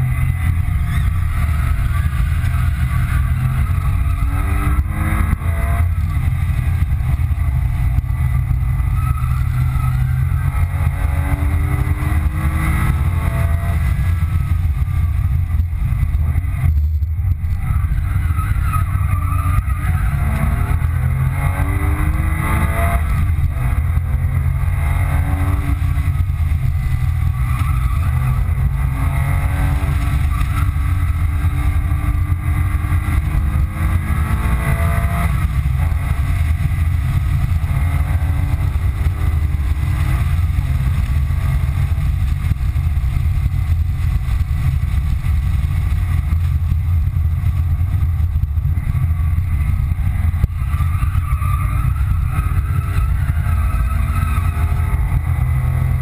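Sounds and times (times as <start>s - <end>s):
car engine accelerating: 0.0s - 56.0s
road and wind noise: 0.0s - 56.0s.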